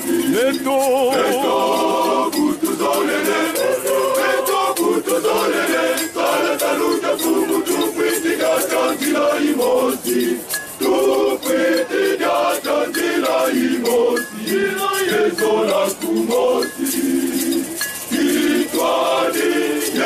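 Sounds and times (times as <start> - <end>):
hand-held rattles shaking: 0.0 - 20.0
men's choir singing: 0.0 - 20.0.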